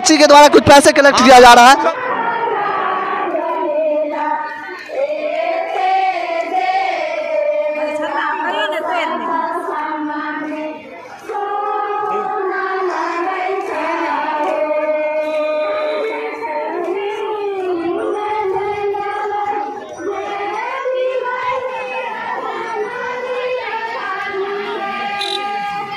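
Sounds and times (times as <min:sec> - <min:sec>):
women singing slow chant: 0:02.0 - 0:25.9.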